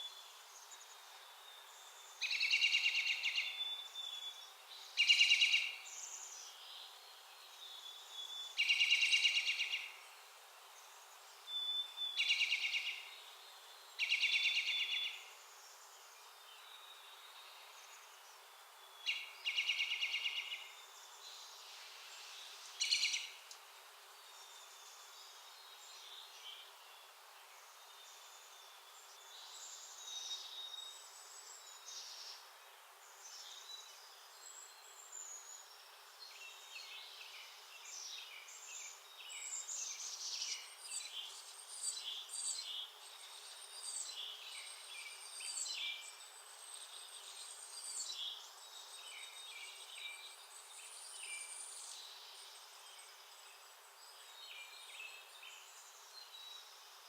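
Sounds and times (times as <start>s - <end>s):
faint outdoor hiss: 0.0s - 57.0s
songbirds chirping: 0.0s - 57.0s.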